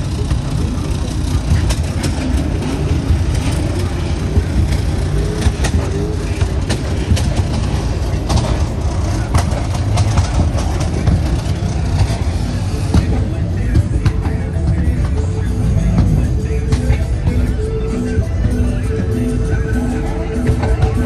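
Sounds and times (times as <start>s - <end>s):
faint voices: 0.0s - 21.0s
low vehicle rumble: 0.0s - 21.0s.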